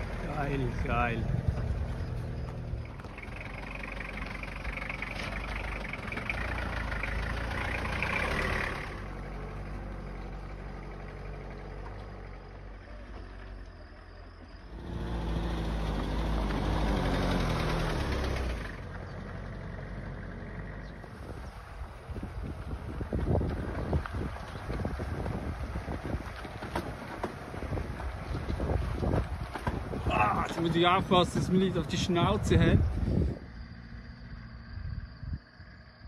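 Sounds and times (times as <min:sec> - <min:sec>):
vehicle engine on rough track: 0:00.0 - 0:36.0.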